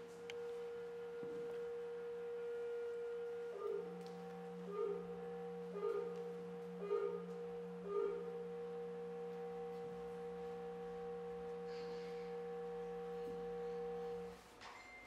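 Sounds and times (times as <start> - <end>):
woodwind held tones: 0.0 - 15.0.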